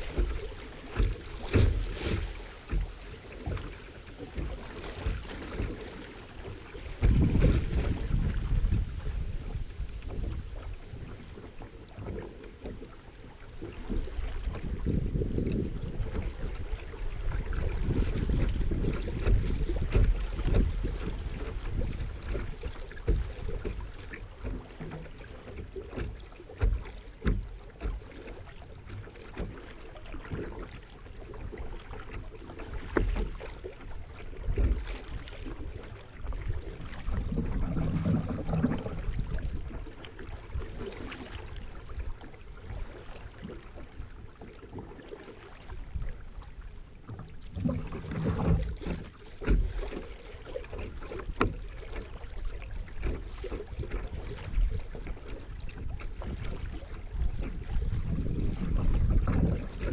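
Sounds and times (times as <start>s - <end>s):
wind rumble on microphone: 0.0s - 28.0s, 28.6s - 44.9s, 45.6s - 50.0s, 50.6s - 59.9s
river water lapping on hull: 0.0s - 59.9s.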